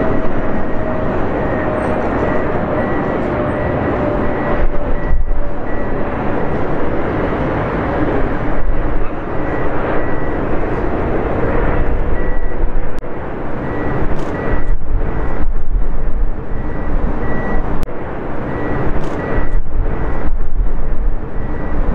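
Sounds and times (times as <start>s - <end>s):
jet engines in flight: 0.0s - 21.9s.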